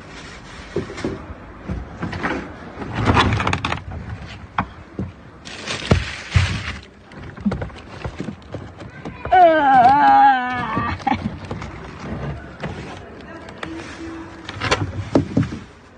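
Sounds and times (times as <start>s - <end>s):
knocks and thuds against bin: 0.7s - 12.9s, 14.6s - 15.7s
plastic sacks rustling: 2.9s - 15.9s.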